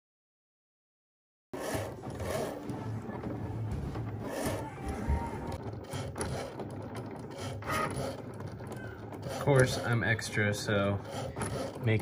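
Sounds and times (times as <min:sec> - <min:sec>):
cutting machine motors whirring: 0:01.6 - 0:12.0.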